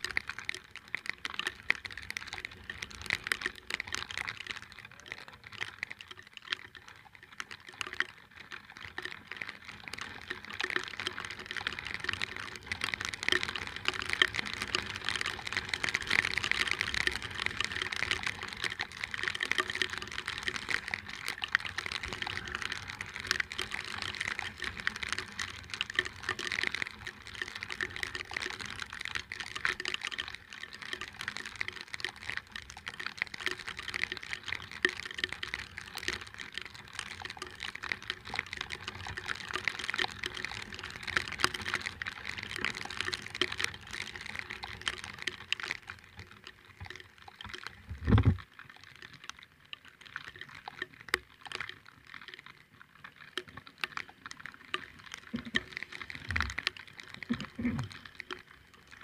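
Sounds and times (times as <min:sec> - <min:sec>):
rain pattering on microphone: 0:00.0 - 0:59.0.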